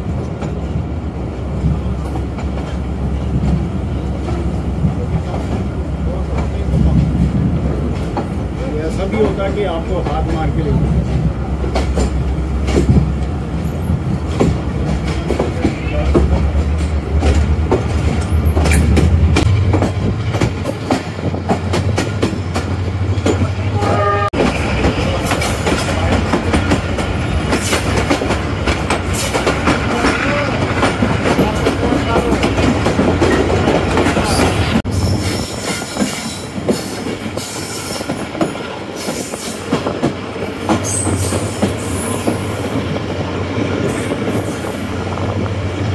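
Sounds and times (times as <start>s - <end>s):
train wheels clattering over rails: 0.0s - 45.9s.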